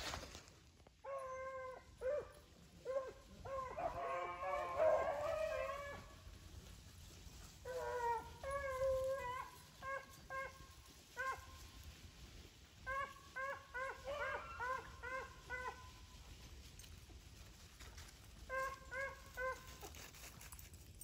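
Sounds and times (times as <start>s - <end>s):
dogs baying and barking: 1.0s - 11.8s, 12.6s - 17.0s, 17.8s - 20.9s.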